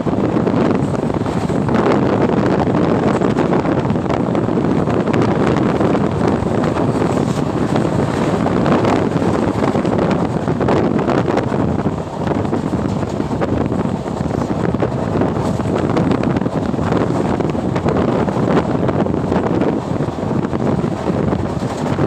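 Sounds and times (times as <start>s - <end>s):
loud rushing noise: 0.0s - 22.0s.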